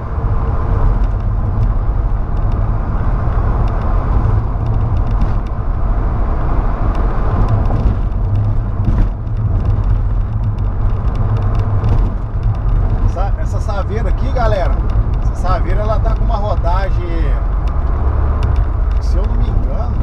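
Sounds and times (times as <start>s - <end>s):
car engine rumble: 0.0s - 20.0s
tyre noise: 0.0s - 20.0s
wind noise: 0.0s - 20.0s.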